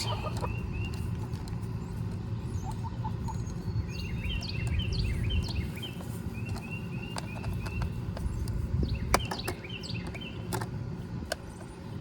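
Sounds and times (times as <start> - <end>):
birds chirping: 0.0 - 12.0
low steady rumble: 0.0 - 12.0.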